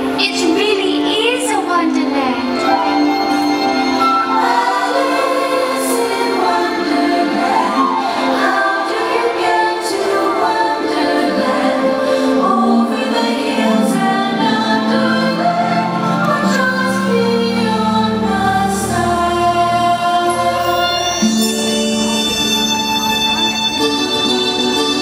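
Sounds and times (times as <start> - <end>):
choral music: 0.0 - 25.0.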